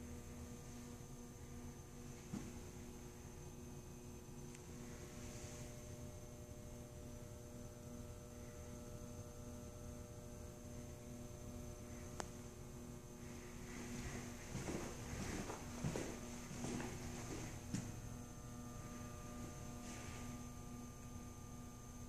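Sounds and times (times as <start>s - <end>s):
electrical hum: 0.0s - 22.0s
faint high whine: 0.0s - 22.0s.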